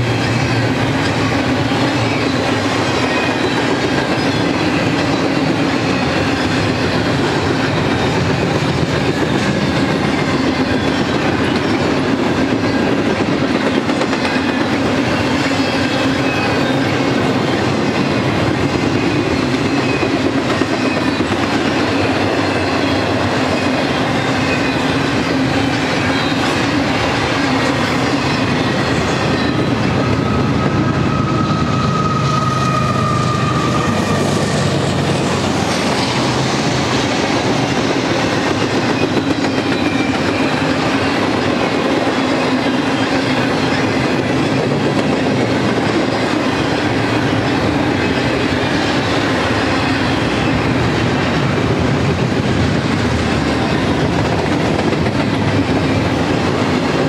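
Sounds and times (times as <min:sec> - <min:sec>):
diesel locomotive engines droning: 0:00.0 - 0:57.0
steel wheels on rail: 0:00.0 - 0:57.0
wheels clickety-clack over rail joints: 0:00.0 - 0:57.0.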